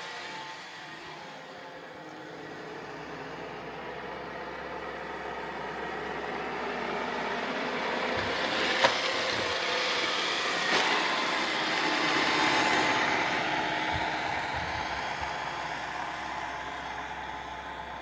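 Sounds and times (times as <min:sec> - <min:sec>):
robot vacuum whirring: 0:00.0 - 0:04.3, 0:05.8 - 0:16.6.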